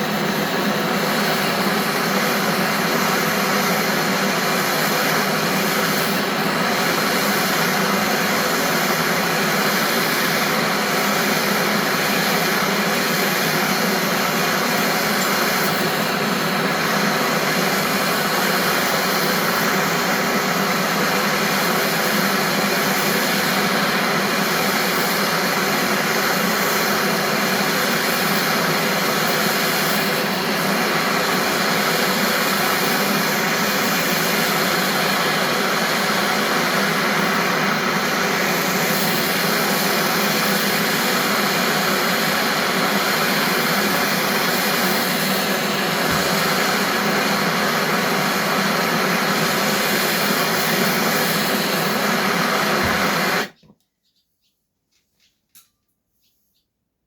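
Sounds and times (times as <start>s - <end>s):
heat gun blowing: 0.0s - 53.6s.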